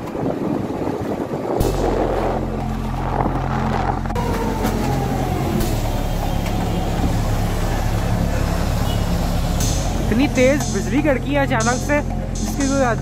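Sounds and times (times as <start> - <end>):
bus engine droning: 0.0 - 13.0
whine falling in pitch: 1.6 - 12.8.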